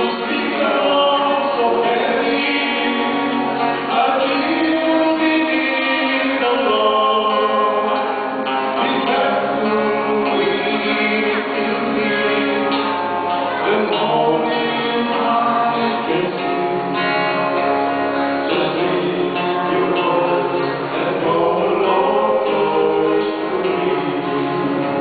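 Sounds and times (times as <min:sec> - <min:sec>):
acoustic guitar: 0:00.0 - 0:25.0
men singing gospel duet: 0:00.0 - 0:25.0.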